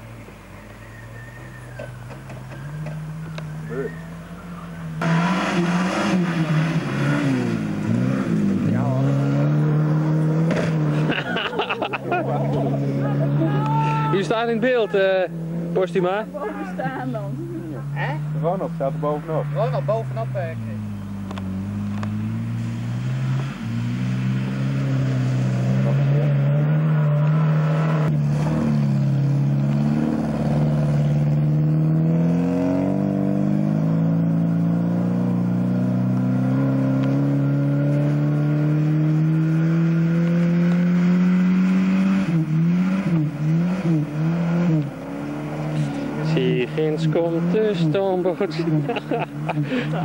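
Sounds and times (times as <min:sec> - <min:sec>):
car engines revving hard: 0:00.0 - 0:50.0.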